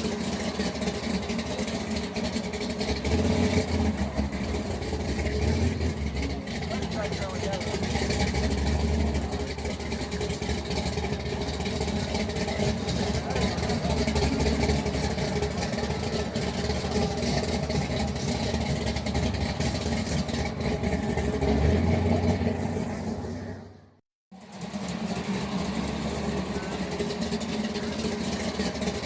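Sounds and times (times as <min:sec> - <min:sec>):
car engine rumbling: 0:00.0 - 0:29.0.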